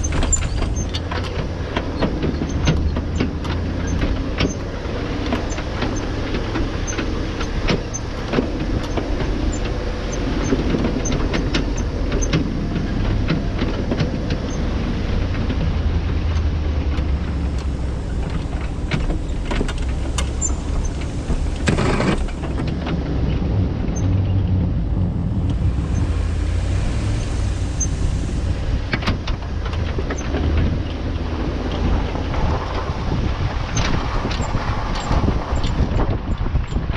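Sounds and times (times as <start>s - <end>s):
knocks and rattles: 0.0s - 36.9s
vehicle engine rumbling: 0.0s - 36.9s.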